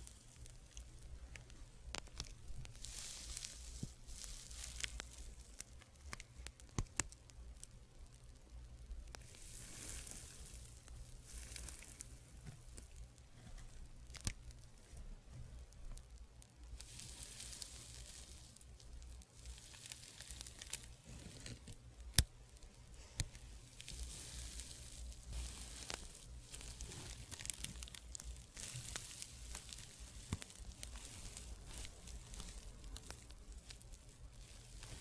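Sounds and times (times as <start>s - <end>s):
small crackles: 0.0s - 35.0s.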